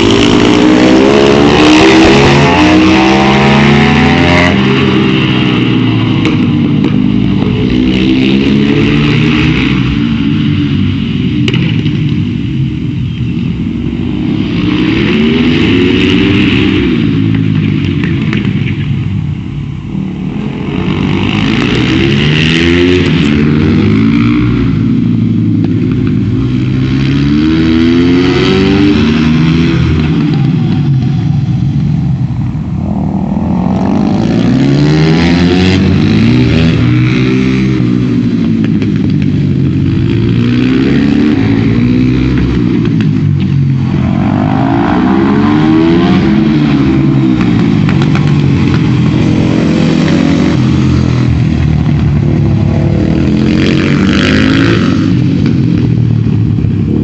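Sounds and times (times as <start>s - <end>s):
motorcycle engine revving: 0.0s - 12.7s, 20.3s - 57.0s.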